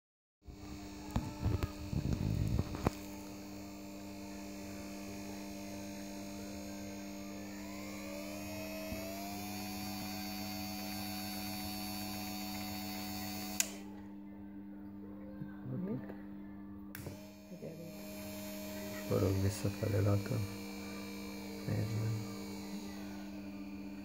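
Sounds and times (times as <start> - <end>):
small gear motor whining: 0.5 - 13.9, 17.1 - 24.0
steady electrical hum: 0.5 - 24.0.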